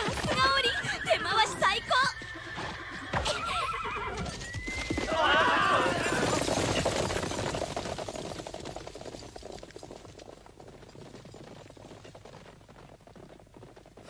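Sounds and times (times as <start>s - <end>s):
galloping horse hooves: 0.0s - 14.0s.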